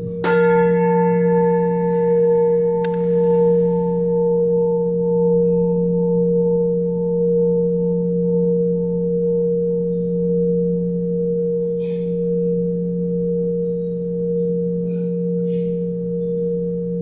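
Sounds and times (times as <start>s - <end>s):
clear sustained tone: 0.0s - 17.0s
faint pulsing high tone: 0.0s - 17.0s
sustained low hum tone: 0.0s - 17.0s.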